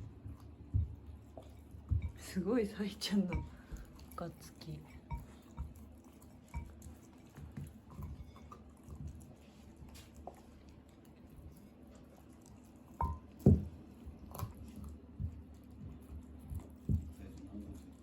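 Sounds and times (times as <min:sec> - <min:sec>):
dog chewing on bone: 0:00.0 - 0:18.0.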